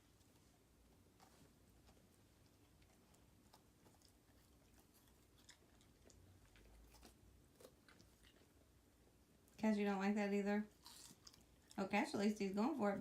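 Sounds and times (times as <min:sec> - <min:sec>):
dog chewing celery: 0:00.1 - 0:08.8, 0:10.6 - 0:13.0.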